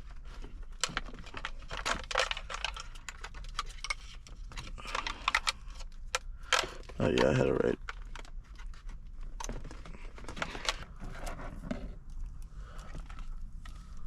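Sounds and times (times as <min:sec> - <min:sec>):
plastic parts clicking and rattling: 0:00.0 - 0:14.0.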